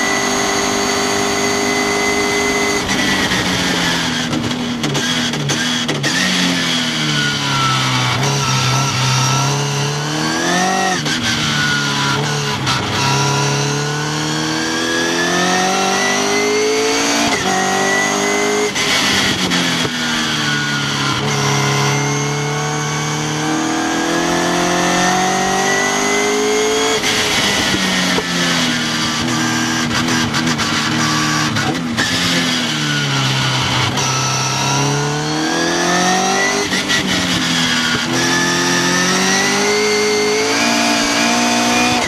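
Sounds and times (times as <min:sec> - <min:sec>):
sports car engine accelerating: 0:00.0 - 0:42.0.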